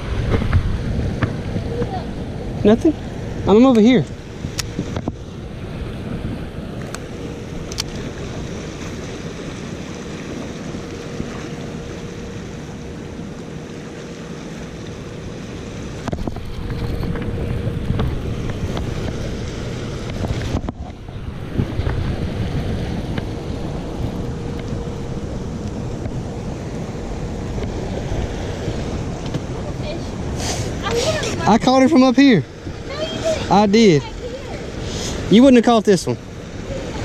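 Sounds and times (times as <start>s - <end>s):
wind buffeting microphone: 0.0s - 13.6s, 15.3s - 37.0s
faint steady hum: 0.0s - 37.0s
river current rushing: 0.0s - 37.0s.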